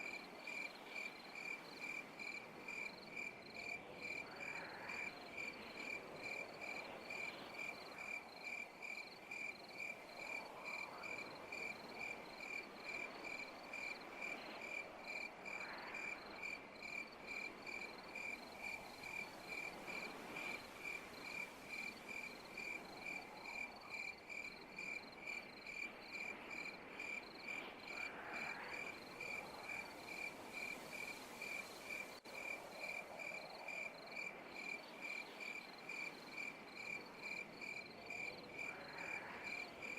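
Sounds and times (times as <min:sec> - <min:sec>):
cricket chirping: 0:00.0 - 0:39.9
night ambience: 0:00.0 - 0:39.9.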